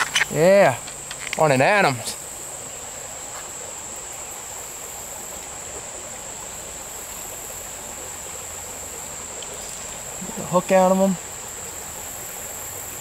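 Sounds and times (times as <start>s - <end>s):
high-pitched insect chorus: 0.0s - 13.0s
stream rushing: 0.0s - 13.0s.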